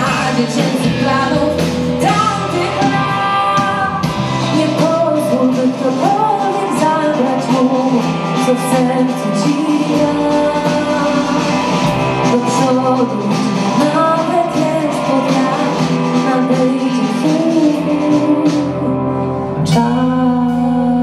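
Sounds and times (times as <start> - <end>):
live rock band playing: 0.0 - 21.0
woman singing: 0.0 - 21.0.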